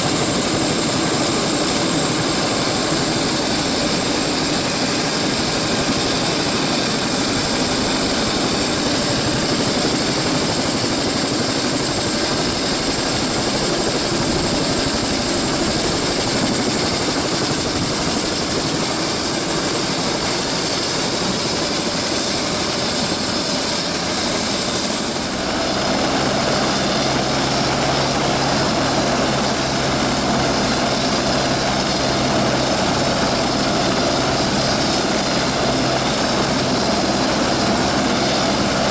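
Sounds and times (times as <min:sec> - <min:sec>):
helicopter turbine whine and rotor: 0:00.0 - 0:38.9.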